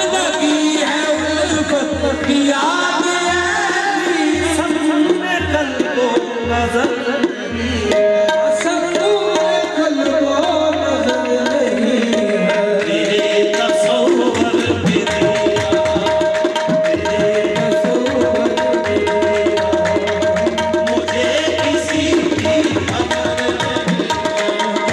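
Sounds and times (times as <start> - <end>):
tabla playing brisk rhythm: 0.0 - 24.9.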